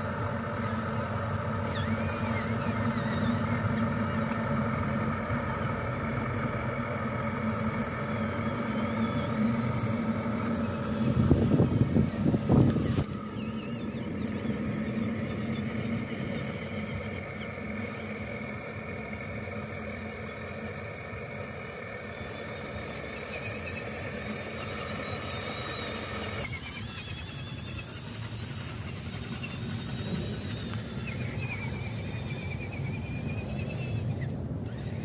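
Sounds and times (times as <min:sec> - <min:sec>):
toy truck motor whining: 0:00.0 - 0:35.0.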